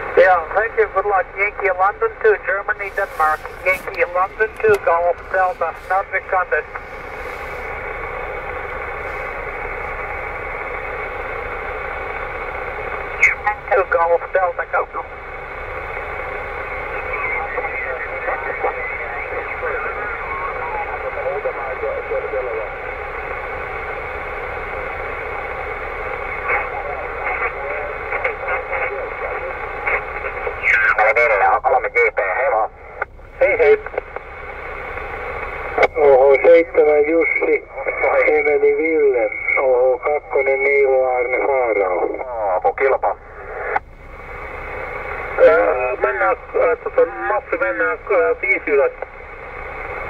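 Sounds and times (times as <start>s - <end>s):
radio receiver static hiss: 0.0s - 50.0s.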